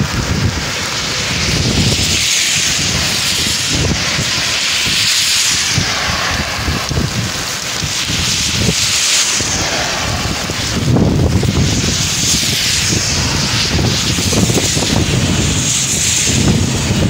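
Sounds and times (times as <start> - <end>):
rain and wet tyres hissing: 0.0 - 17.0
wind buffeting the microphone: 0.0 - 17.0
wind rushing past: 0.0 - 17.0.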